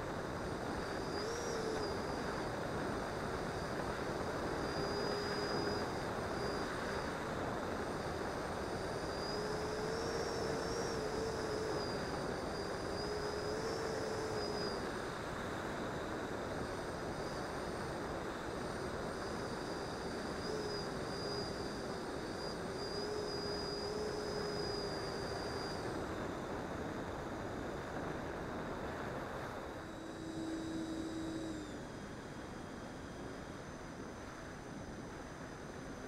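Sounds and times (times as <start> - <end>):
electric ducted fan whine: 0.0 - 36.0.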